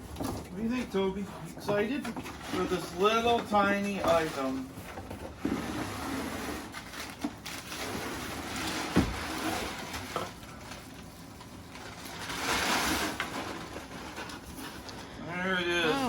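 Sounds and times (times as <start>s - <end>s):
cardboard and packing rustling: 0.0s - 15.9s.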